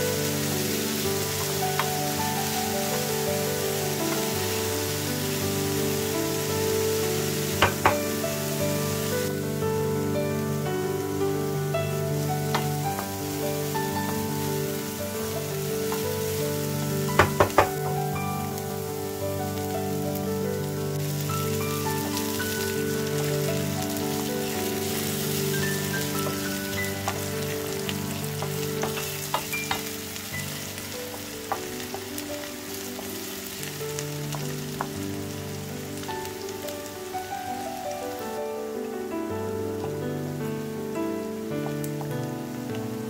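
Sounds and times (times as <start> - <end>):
onion sizzling in oil: 0.0 - 43.0
soft background music: 0.0 - 43.0.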